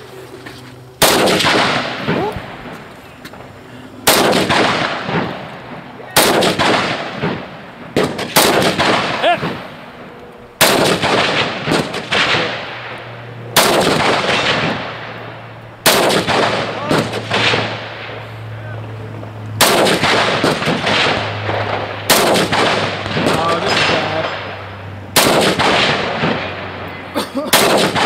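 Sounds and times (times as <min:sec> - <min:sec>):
rifle shots with echo: 0:01.0 - 0:03.4, 0:04.0 - 0:18.5, 0:19.4 - 0:28.0.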